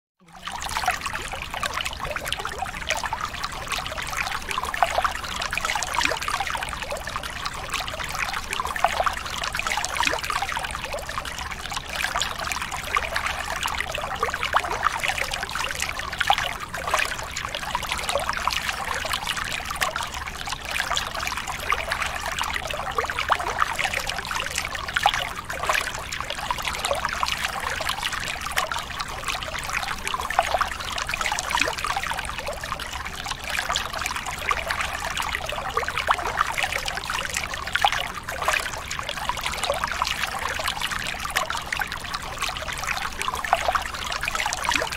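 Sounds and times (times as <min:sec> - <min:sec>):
water trickling: 0:00.2 - 0:44.9.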